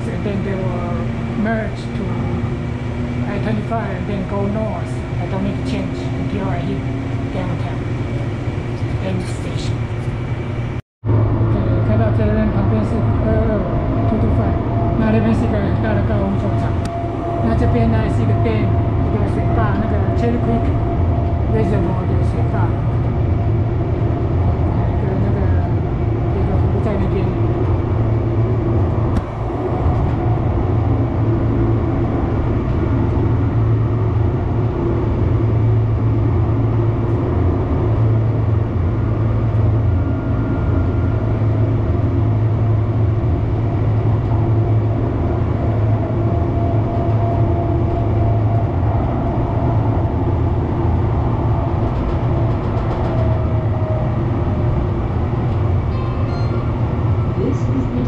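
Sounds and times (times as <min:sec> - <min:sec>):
faint whine: 0:00.0 - 0:58.0
train wheels rumbling on track: 0:00.0 - 0:58.0.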